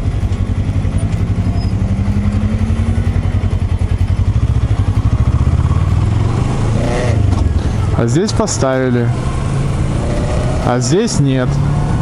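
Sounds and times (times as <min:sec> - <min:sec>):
motorcycle engine pulsing: 0:00.0 - 0:12.0.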